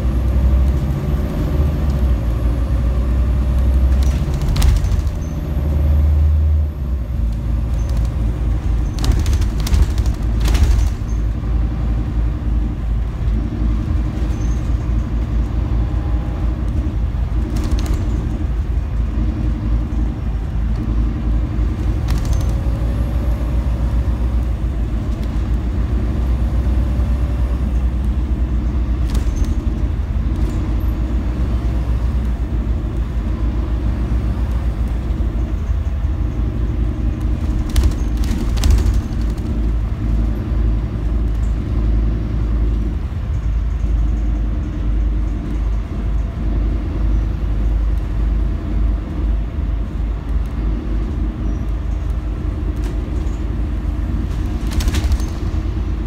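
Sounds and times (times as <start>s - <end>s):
bus diesel engine drone: 0.0s - 56.0s
knocks and rattles over bumps: 0.0s - 56.0s
road rumble: 0.0s - 56.0s.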